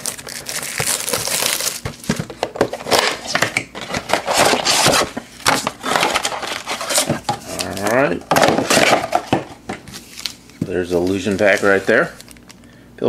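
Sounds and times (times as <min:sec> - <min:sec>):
packaging crinkling: 0:00.0 - 0:12.8.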